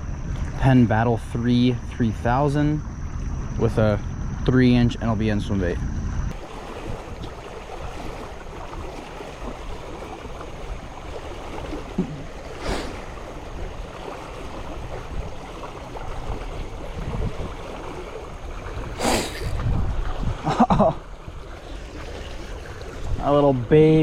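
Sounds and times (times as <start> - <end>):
moving water: 0.0 - 24.0
wind on microphone: 0.0 - 24.0.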